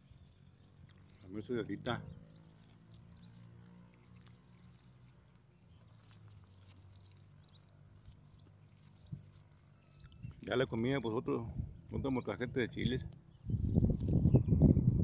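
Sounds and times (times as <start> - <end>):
wet chewing clicks: 0.0 - 12.0, 12.8 - 15.0.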